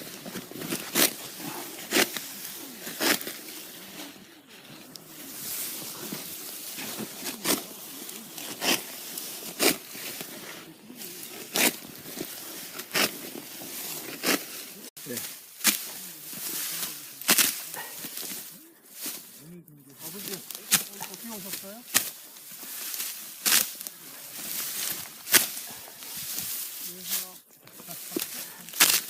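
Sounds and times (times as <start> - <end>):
sickle slicing rice stalks: 0.5 - 3.8, 5.2 - 10.3, 11.0 - 19.4, 20.0 - 29.0.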